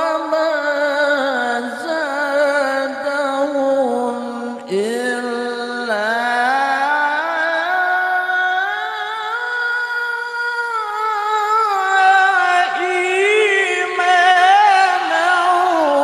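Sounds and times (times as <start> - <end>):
man reciting melodically into microphone: 0.0 - 16.0.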